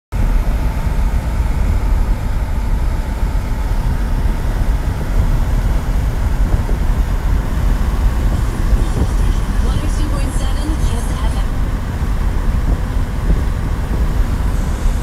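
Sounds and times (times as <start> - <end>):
car road and wind rumble: 0.1 - 15.0.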